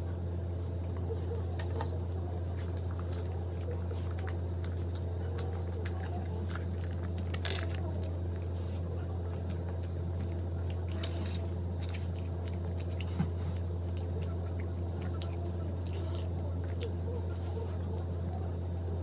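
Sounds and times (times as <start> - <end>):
person chewing food: 0.4 - 17.8.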